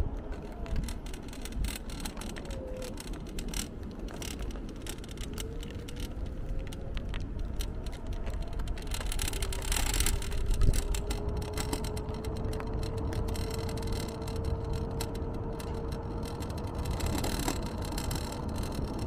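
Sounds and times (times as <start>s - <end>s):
faint motor whine: 0.0s - 19.0s
wind rumble on microphone: 0.0s - 19.0s
rattling clicks: 0.2s - 19.0s.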